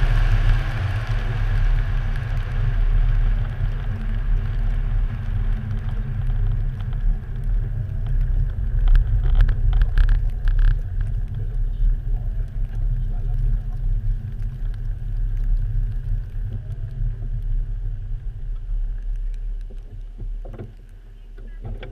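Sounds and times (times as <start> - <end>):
car engine and tyre rumble: 0.0 - 21.9.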